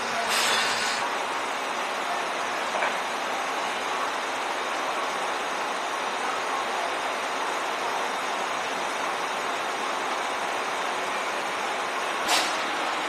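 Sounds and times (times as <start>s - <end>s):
train coach rushing noise: 0.0s - 13.0s.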